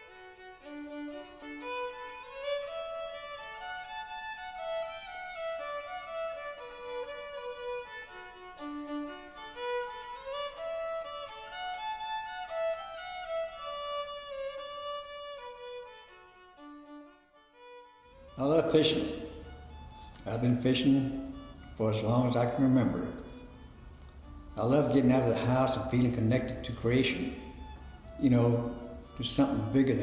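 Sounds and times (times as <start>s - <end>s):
fiddle melody: 0.0s - 30.0s.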